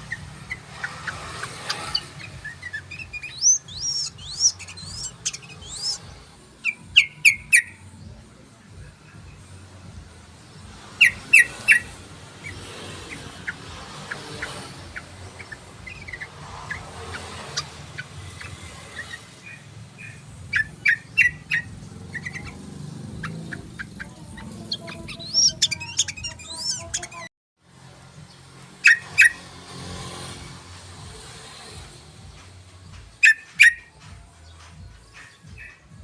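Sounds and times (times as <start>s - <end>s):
bird chirping: 0.0s - 27.3s, 28.2s - 30.2s.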